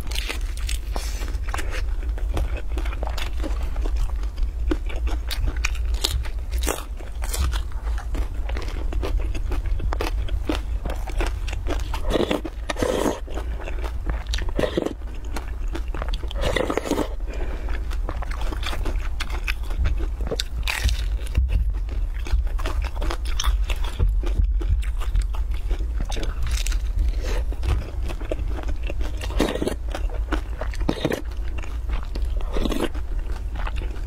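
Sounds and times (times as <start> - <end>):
low hum: 0.0 - 34.0
person chewing and biting flatbread: 0.0 - 34.0.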